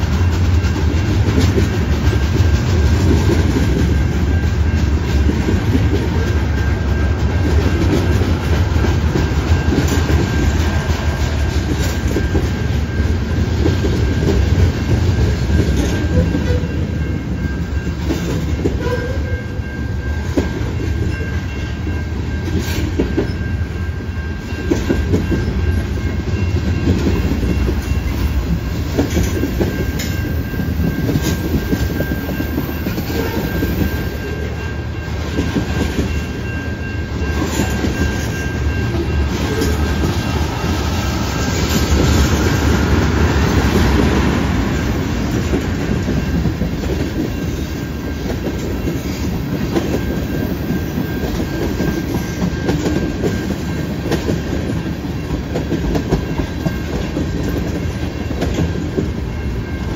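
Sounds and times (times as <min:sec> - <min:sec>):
train wheels clicking over rail joints: 0:00.0 - 0:21.5, 0:24.4 - 0:59.9.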